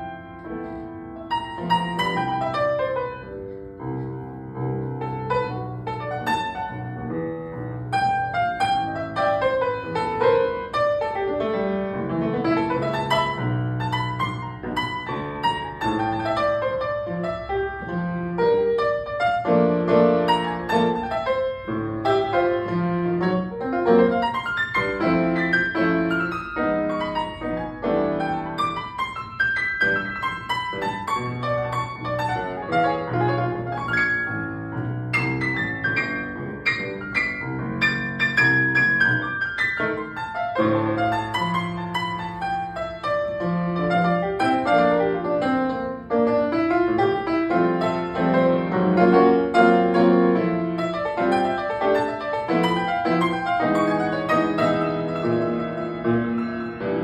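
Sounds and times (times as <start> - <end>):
piano playing chords and melody: 0.0 - 57.0.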